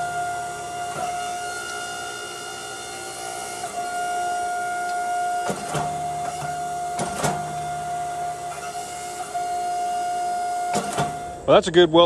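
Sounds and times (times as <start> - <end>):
low hum of press under load: 0.0 - 11.5
hydraulic press pump whine: 0.0 - 12.0.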